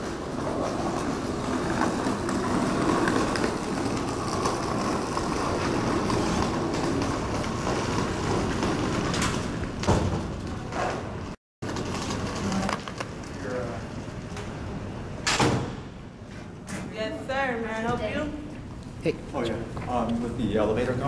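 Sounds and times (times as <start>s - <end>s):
rumbling lobby background noise: 0.0s - 21.0s.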